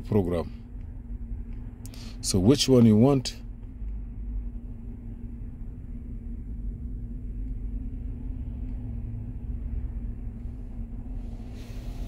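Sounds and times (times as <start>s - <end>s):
vehicle constant hum: 0.0s - 12.0s
vehicle running rumble: 0.0s - 12.0s.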